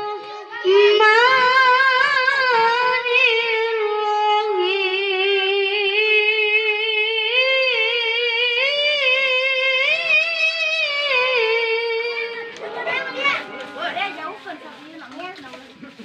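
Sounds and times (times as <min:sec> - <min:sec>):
boy reciting in melodic voice: 0:00.0 - 0:15.9.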